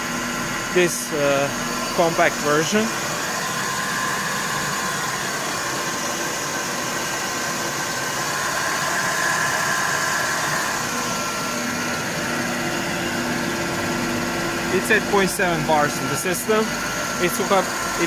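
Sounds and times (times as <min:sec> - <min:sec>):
air compressor running: 0:00.0 - 0:18.0.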